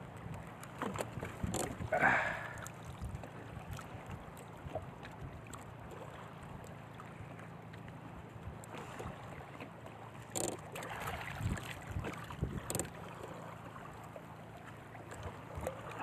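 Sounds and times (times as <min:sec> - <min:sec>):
water noise around boat: 0:00.0 - 0:16.0
wind: 0:00.0 - 0:16.0
water splashing: 0:00.5 - 0:08.0, 0:08.7 - 0:16.0.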